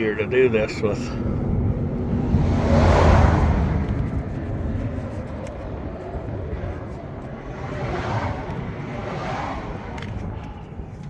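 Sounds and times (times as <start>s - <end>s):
steady low rumble: 0.0s - 11.0s
vehicle passing: 0.9s - 11.0s.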